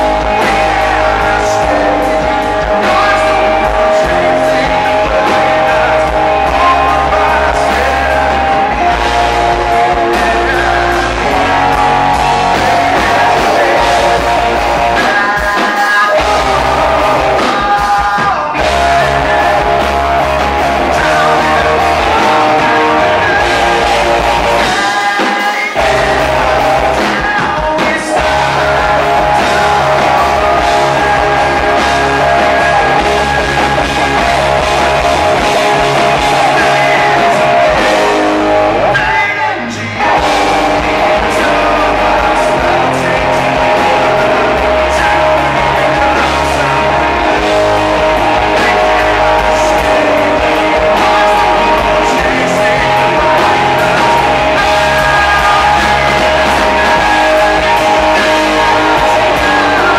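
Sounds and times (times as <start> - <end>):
bass guitar: 0.0 - 59.9
distorted electric guitar: 0.0 - 59.9
drums: 0.0 - 59.9
male vocal singing: 0.0 - 59.9.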